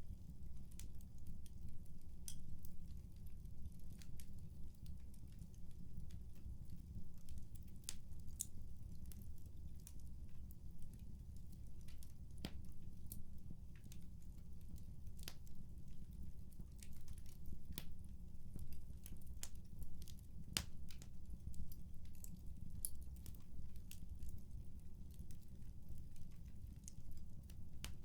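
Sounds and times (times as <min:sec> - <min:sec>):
fire crackling and popping: 0:00.1 - 0:28.0.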